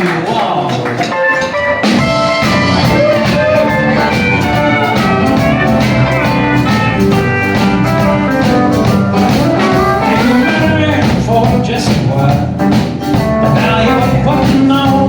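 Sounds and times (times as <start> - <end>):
bass: 0.0 - 15.0
drum beat: 0.0 - 15.0
electric guitar: 0.0 - 15.0.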